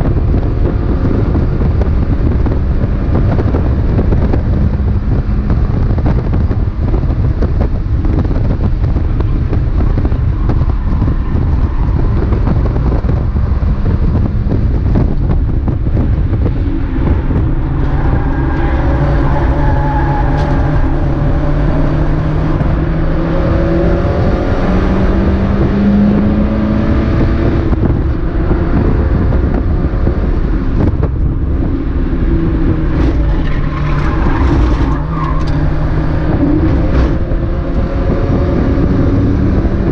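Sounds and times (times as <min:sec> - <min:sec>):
race car engine running hard: 0:00.0 - 0:39.9
wind and road noise: 0:00.0 - 0:39.9.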